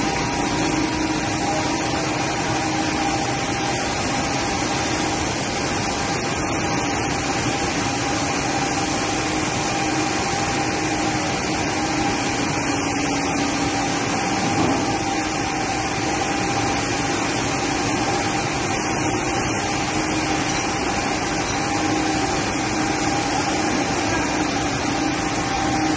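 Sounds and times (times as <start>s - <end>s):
constant machine hum: 0.0s - 25.9s
oil press machines running: 0.0s - 25.9s.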